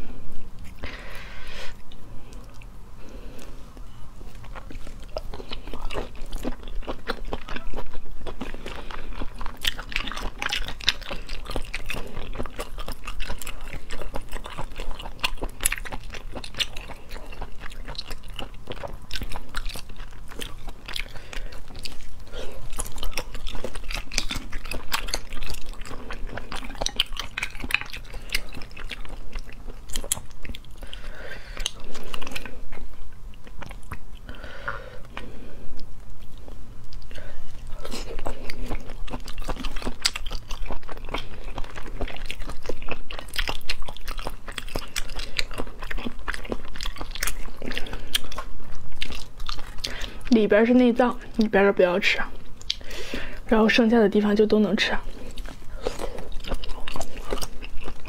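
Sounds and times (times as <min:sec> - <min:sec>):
wet chewing and biting: 0:03.4 - 0:50.4, 0:52.4 - 0:53.4, 0:55.1 - 0:58.0.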